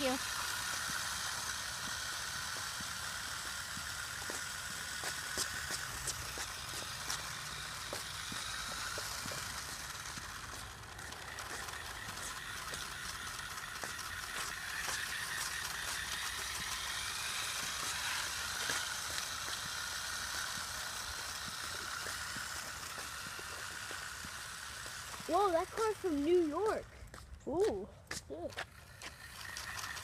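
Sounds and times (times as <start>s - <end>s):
toy car electric motor whining: 0.0s - 26.9s, 28.4s - 30.0s
wheel noise: 0.0s - 27.0s, 28.3s - 30.0s.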